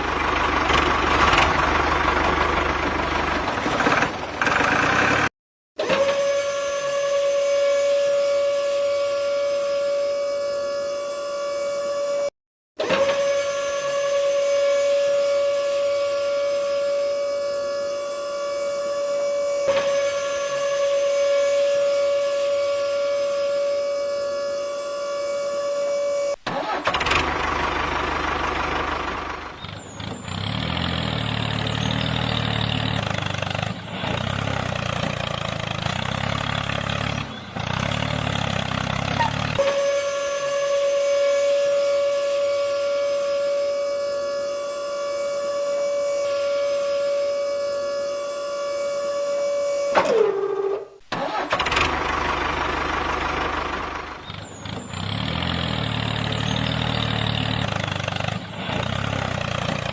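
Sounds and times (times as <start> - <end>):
rumbling engine noise: 0.0 - 59.9.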